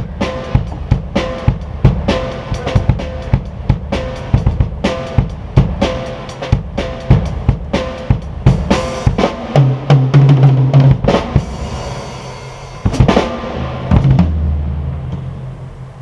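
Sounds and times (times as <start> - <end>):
drum kit playing: 0.0 - 15.8
cymbal crashes: 0.0 - 16.0
low toms ringing: 0.0 - 16.0.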